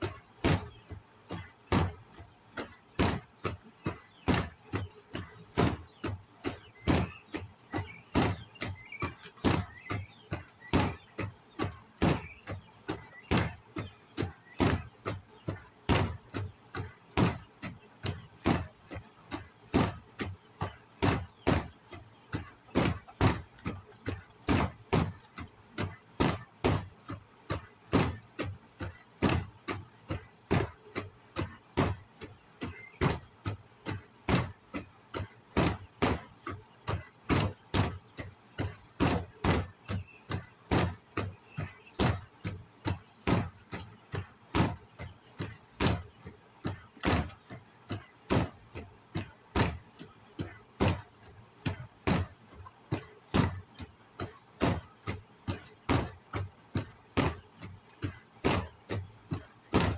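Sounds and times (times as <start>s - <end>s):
sharp knocks: 0.0s - 59.9s.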